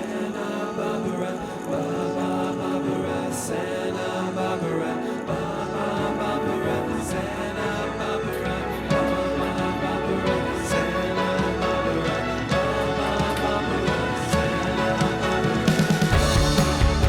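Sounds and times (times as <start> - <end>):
music with singing voices: 0.0 - 17.0.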